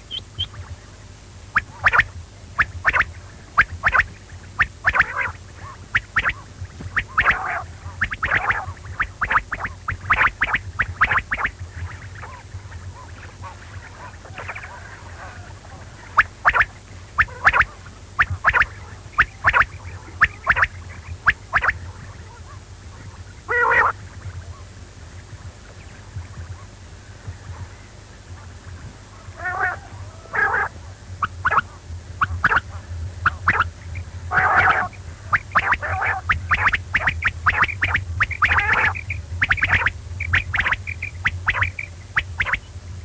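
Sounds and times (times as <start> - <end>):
quail calling: 0.0 - 0.8, 1.5 - 24.7, 26.3 - 42.7
steady low hum: 0.0 - 43.0.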